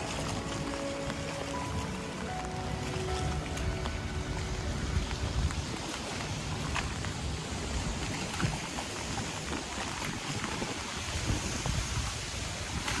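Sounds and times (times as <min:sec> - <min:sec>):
water washing along shore: 0:00.0 - 0:13.0
wind buffeting microphone: 0:00.0 - 0:13.0.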